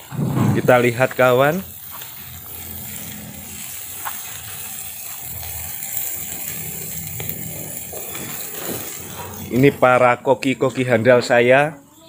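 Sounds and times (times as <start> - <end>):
faint crackles: 0.0 - 12.0
meat sizzling on charcoal grill: 0.0 - 12.0.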